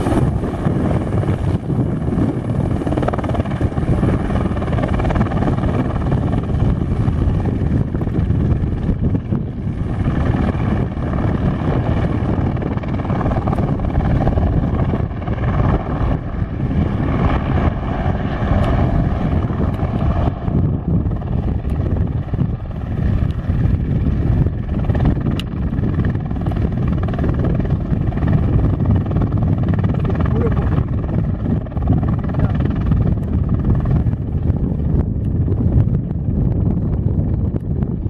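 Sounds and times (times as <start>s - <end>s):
helicopter rotor rumble: 0.0s - 38.0s
turbine whine: 0.0s - 38.0s.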